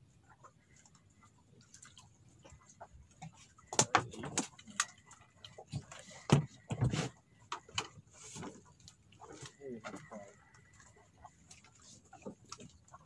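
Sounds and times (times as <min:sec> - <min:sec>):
fishing rods and reels clicking: 0:00.2 - 0:13.0.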